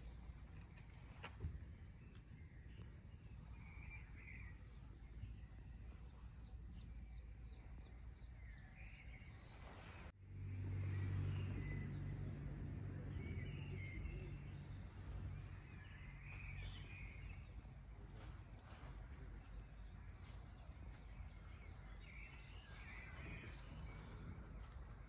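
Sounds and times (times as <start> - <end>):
birds chirping: 0.0 - 25.0
low steady engine hum: 0.0 - 25.0.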